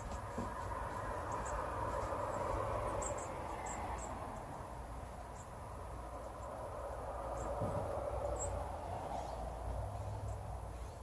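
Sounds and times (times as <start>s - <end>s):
chickadees chipping: 0.0s - 11.0s
outdoor background rush: 0.0s - 11.0s.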